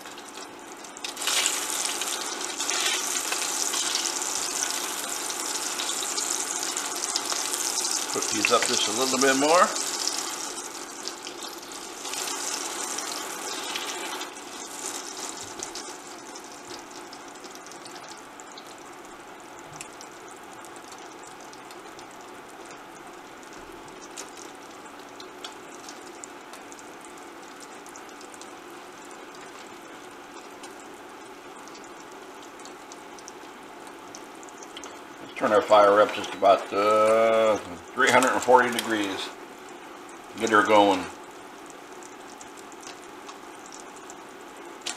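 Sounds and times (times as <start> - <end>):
meat sizzling in oil: 0.0 - 44.9.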